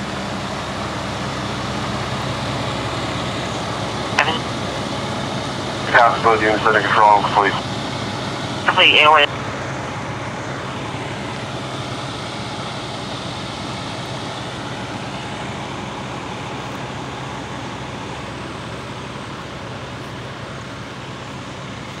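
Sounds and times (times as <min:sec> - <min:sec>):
diesel engines idling: 0:00.0 - 0:22.0.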